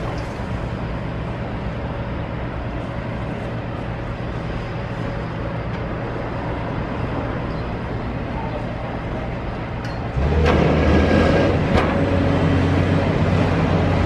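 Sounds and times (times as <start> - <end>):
diesel engines droning: 0.0 - 14.0.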